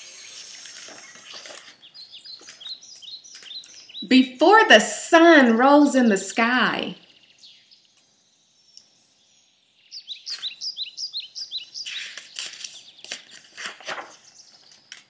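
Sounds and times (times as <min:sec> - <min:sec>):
bird chirping: 0:00.0 - 0:04.7, 0:06.6 - 0:15.0.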